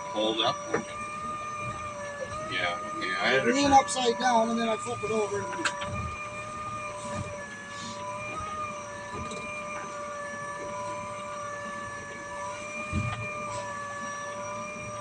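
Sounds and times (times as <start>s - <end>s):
boat motor whining: 0.0s - 15.0s.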